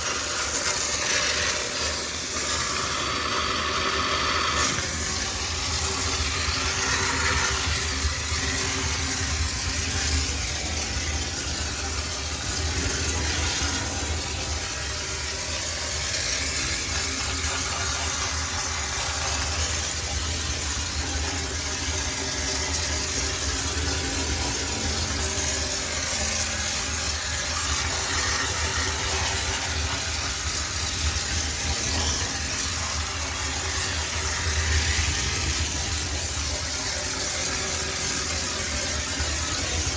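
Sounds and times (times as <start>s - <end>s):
hiss of steam: 0.0s - 39.9s.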